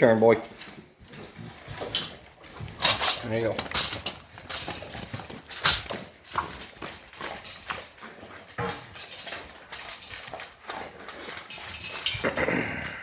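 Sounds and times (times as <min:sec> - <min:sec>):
dog crunching kibble: 0:00.0 - 0:13.0.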